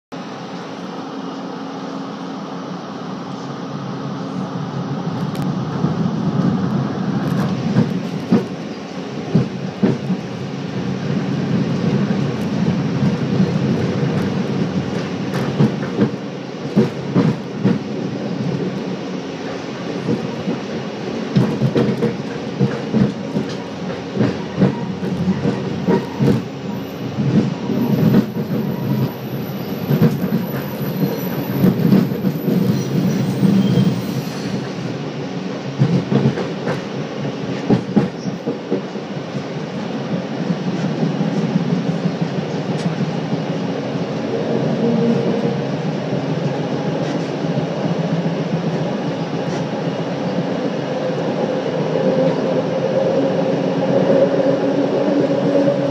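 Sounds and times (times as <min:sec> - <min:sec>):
train low hum: 0:00.1 - 0:55.9.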